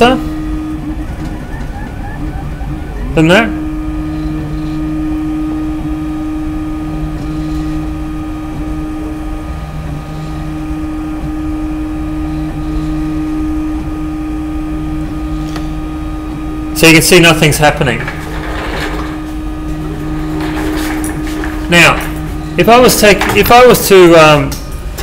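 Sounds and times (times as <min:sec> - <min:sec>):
lower intermittent hum tone: 0:00.0 - 0:25.0
three d printer electrical hum: 0:00.0 - 0:25.0.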